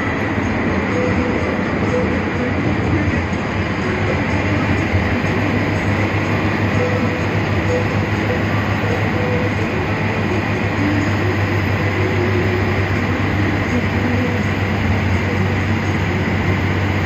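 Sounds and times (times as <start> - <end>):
bus engine and road noise: 0.0 - 17.0
constant low hum: 0.0 - 17.0.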